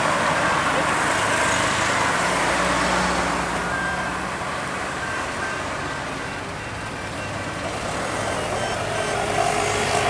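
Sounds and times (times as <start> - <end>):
passing vehicle engine and tyres: 0.0 - 10.0.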